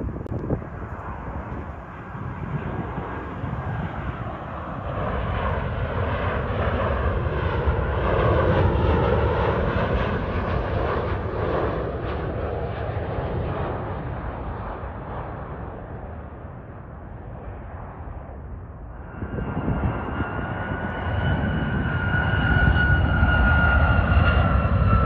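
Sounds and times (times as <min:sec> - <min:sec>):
jet plane passing low overhead: 0:00.0 - 0:25.0.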